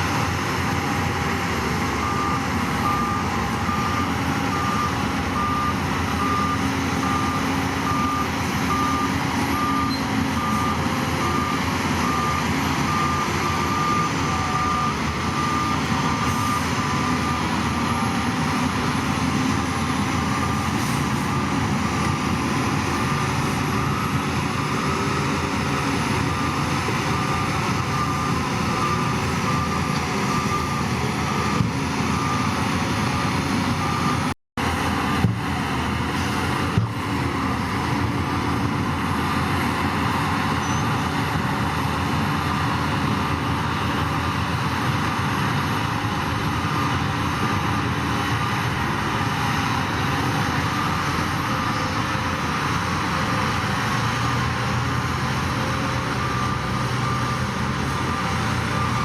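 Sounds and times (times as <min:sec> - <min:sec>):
diesel engine running: 0:00.0 - 0:59.0
reversing alarm beeping: 0:00.3 - 0:35.6, 0:40.2 - 0:41.1, 0:42.5 - 0:59.0.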